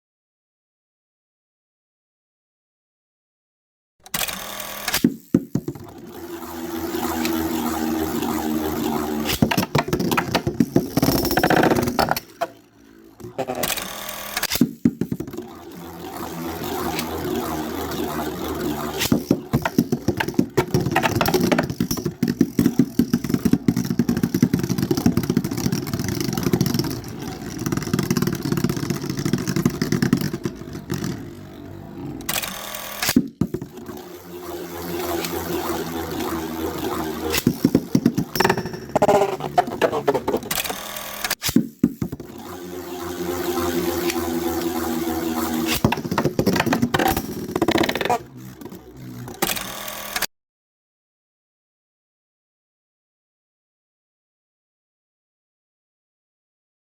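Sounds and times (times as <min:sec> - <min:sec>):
spinning tops whirring: 0:04.1 - 0:50.3.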